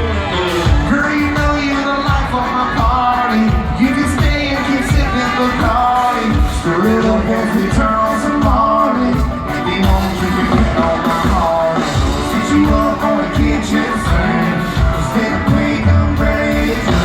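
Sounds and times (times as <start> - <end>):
drums: 0.0 - 17.0
guitars: 0.0 - 17.0
person singing lead vocal: 0.0 - 17.0.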